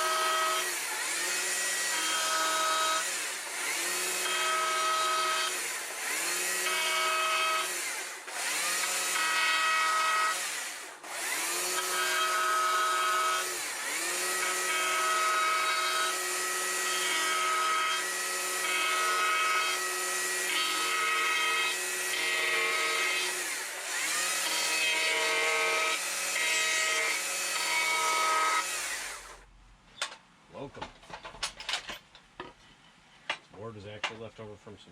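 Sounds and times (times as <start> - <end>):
small chainsaw cutting wood: 0.0 - 29.5.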